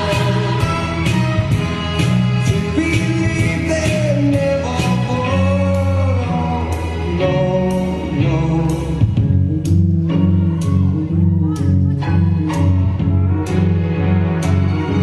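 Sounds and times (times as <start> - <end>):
song with singing and steady beat: 0.0 - 15.0.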